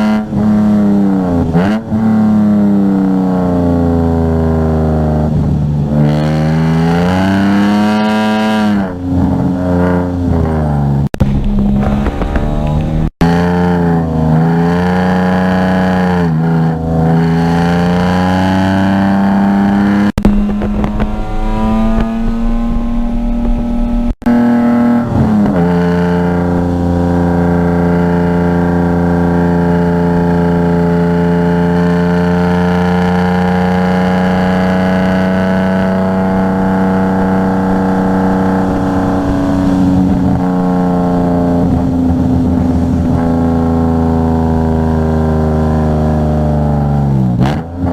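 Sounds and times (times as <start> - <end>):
car engine running under load: 7.8 - 47.9.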